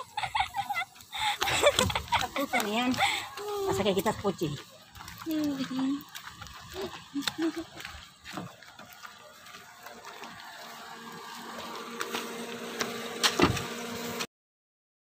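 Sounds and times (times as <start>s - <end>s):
steady engine hum: 0.0s - 14.3s.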